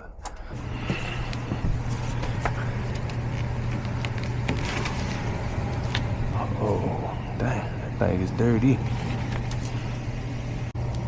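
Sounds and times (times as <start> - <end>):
hvac motor hum: 0.0 - 11.0.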